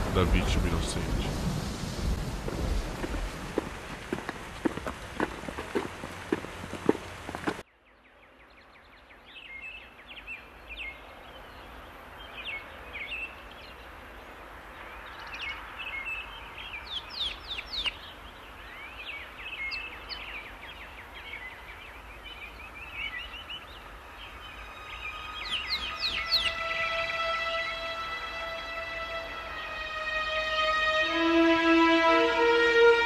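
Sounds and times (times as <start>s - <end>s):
outdoor ambient hiss: 0.0s - 33.0s
birds chirping: 2.2s - 33.0s.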